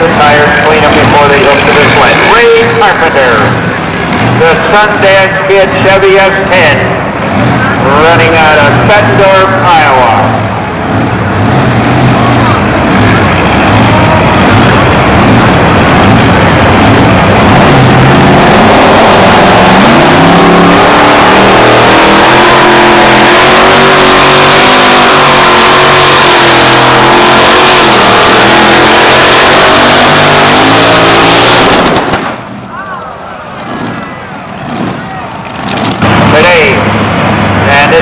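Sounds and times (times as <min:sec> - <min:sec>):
truck engine at full throttle: 0:00.0 - 0:38.0.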